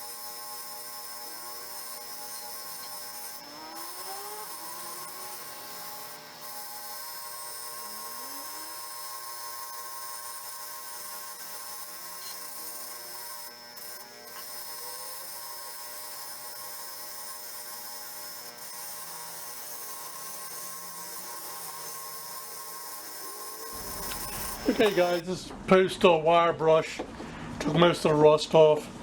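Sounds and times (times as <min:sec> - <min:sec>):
power wire brush scrubbing metal: 0:00.0 - 0:25.2.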